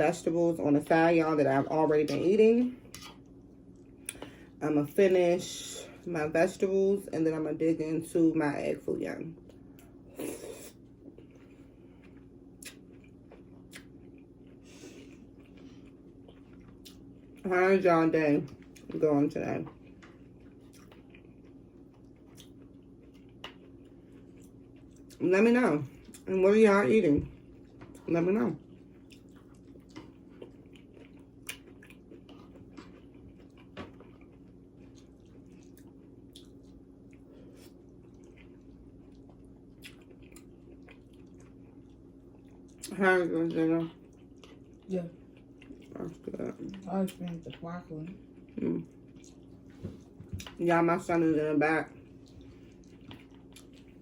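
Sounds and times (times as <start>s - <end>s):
steady low hum: 0.0s - 54.0s
faint chewing of vegetables: 1.6s - 4.6s, 9.3s - 17.5s, 18.3s - 50.7s, 51.8s - 54.0s.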